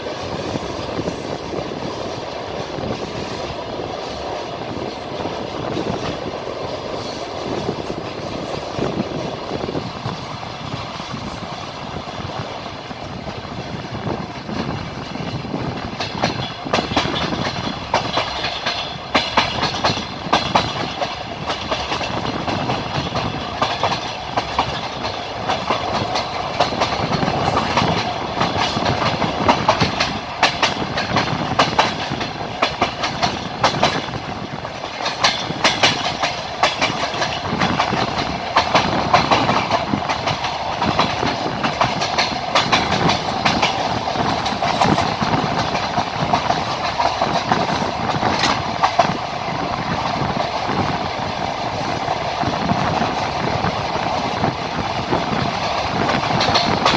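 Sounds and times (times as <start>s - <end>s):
train rumble: 0.0s - 56.9s
train wheels clacking on rails: 0.0s - 56.9s.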